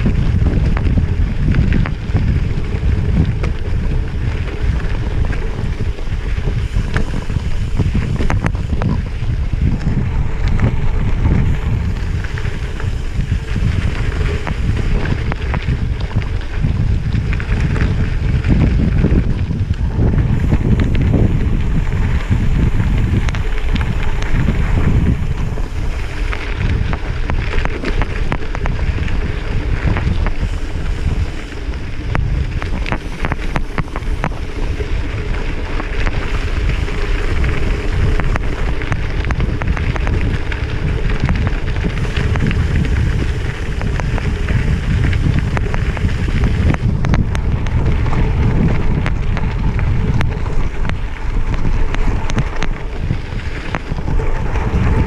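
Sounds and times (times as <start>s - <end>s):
tyres clicking on gravel: 0.0s - 55.0s
wind buffeting microphone: 0.0s - 55.0s.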